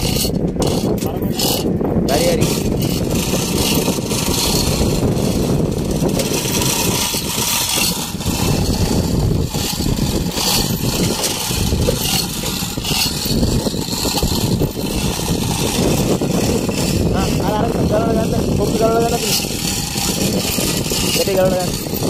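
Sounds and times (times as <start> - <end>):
boat engine running: 0.0 - 22.0
wind: 0.0 - 22.0.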